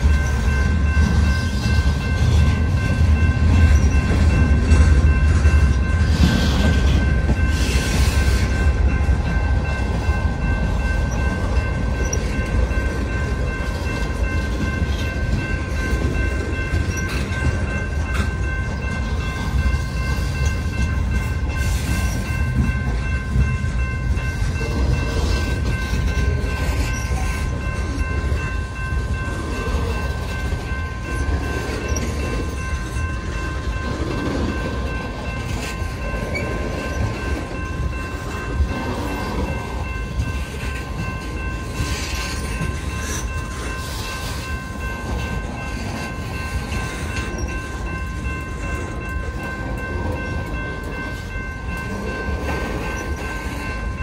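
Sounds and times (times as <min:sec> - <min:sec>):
high ringing tones: 0:00.0 - 0:54.0
low rumble of wheels on rail: 0:00.0 - 0:54.0
train clanks: 0:00.0 - 0:54.0.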